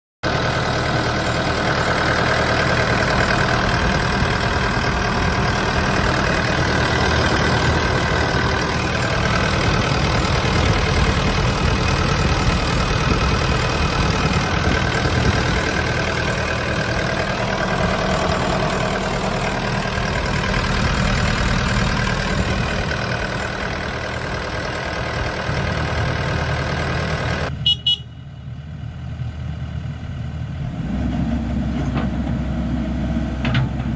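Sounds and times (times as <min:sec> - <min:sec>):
excavator diesel engine running: 0:00.2 - 0:33.9.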